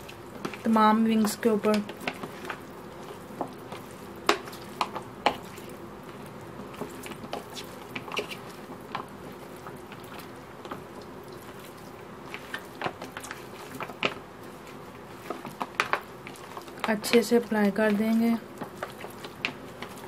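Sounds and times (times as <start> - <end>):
wet squishing of meat: 0.0 - 20.0.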